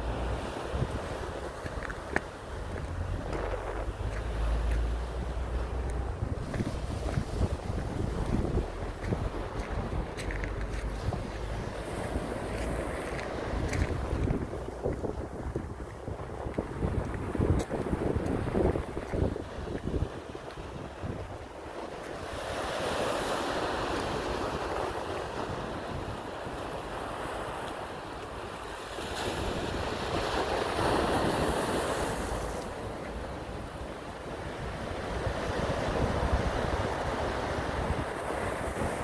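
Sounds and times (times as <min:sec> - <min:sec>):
wind buffeting microphone: 0:00.0 - 0:39.0
small waves breaking on rocks: 0:00.1 - 0:39.0.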